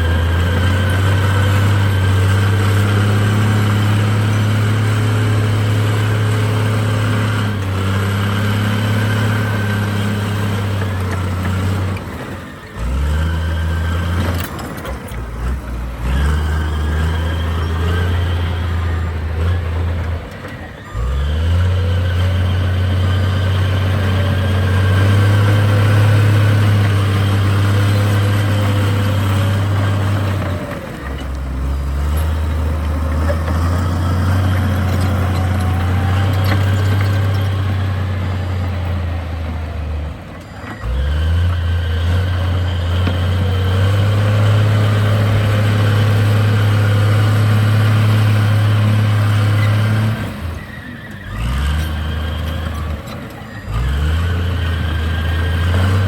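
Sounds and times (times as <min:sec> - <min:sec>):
heavy diesel engine working: 0:00.0 - 0:56.0.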